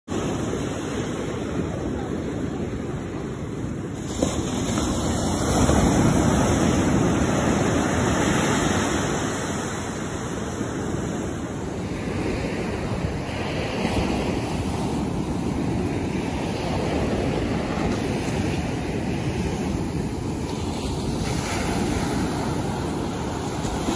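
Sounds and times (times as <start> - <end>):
ocean surf breaking: 0.1 - 23.9.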